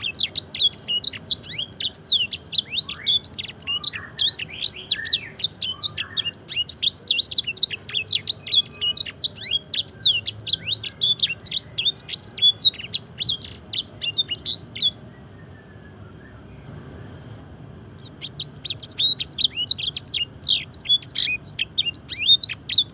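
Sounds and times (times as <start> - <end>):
canary singing: 0.0 - 17.2, 17.9 - 22.9.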